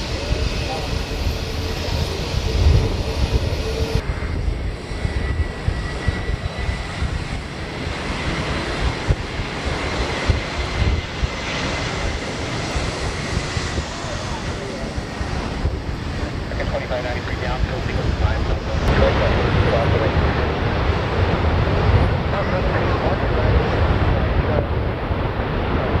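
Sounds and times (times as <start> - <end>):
aircraft engines rumbling: 0.0 - 26.0.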